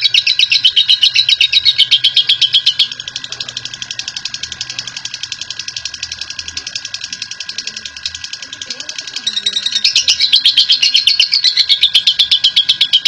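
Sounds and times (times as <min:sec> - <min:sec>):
bird chattering high chirps: 0:00.0 - 0:13.0.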